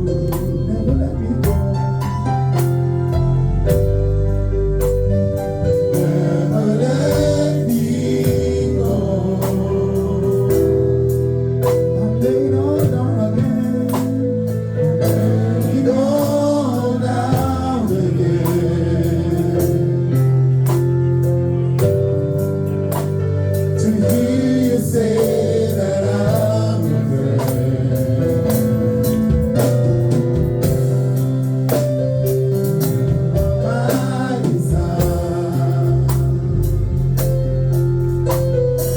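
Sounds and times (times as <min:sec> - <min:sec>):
steady beat: 0:00.0 - 0:12.1, 0:12.8 - 0:38.9
keyboard or organ chords: 0:00.0 - 0:38.9.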